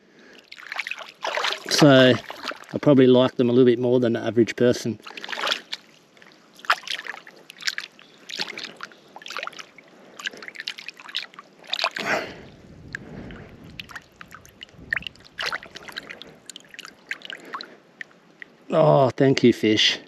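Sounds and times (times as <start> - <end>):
water rush: 0.0 - 3.4, 4.8 - 18.8
shallow water sloshing and splashing: 0.0 - 3.6, 4.8 - 18.7.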